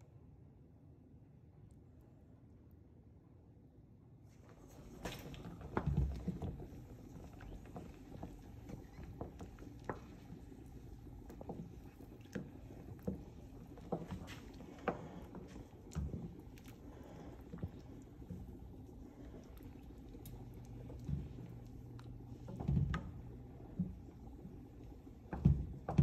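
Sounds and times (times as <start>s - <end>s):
water swishing in saucepan: 4.4s - 26.0s.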